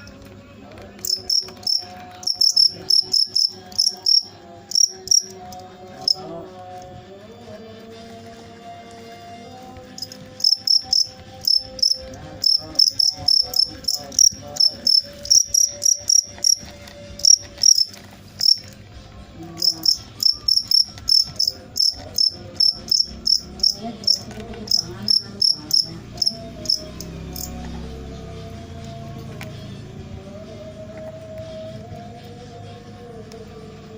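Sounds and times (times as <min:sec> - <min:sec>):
cricket chirping: 0:01.0 - 0:06.9, 0:09.0 - 0:18.7, 0:19.4 - 0:31.7.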